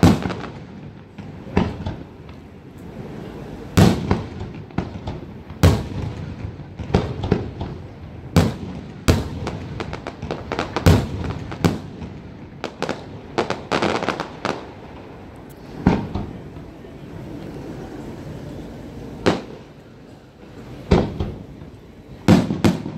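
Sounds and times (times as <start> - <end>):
firework crackling: 0.0 - 22.9.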